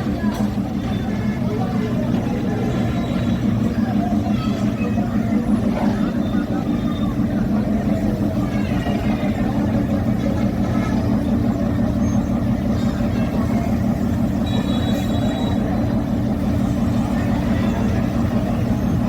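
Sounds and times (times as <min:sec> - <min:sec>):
diesel train engine idling: 0:00.0 - 0:19.0.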